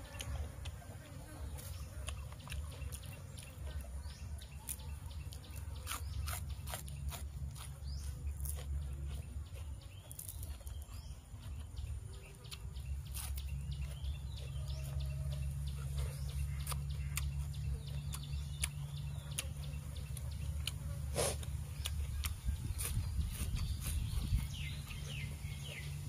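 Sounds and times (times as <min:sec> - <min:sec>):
person chewing: 0:00.0 - 0:25.9.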